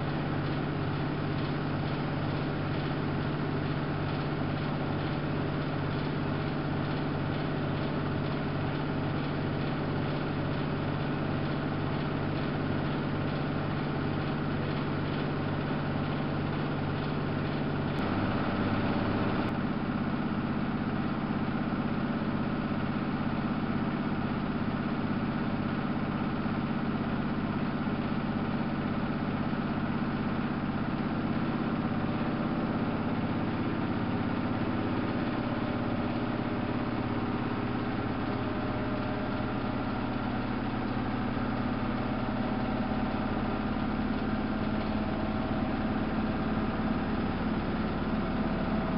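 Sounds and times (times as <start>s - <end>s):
washing machine running: 0.0s - 48.9s.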